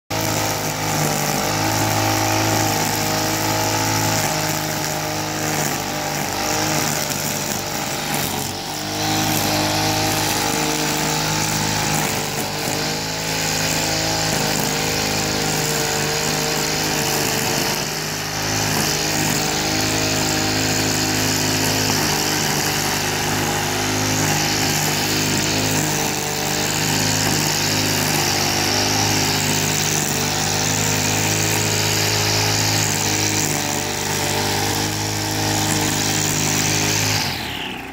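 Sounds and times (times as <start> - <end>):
brush cutter engine running: 0.1 - 37.9
trimmer line cutting grass: 0.1 - 37.9.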